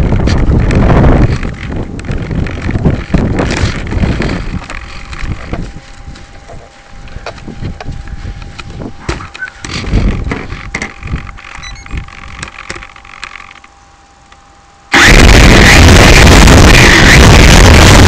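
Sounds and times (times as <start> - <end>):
loud motor and wind rush: 0.0 - 12.6, 14.9 - 18.0
wind buffeting microphone: 0.0 - 12.6, 15.0 - 18.0
faint steady whine: 0.0 - 18.0.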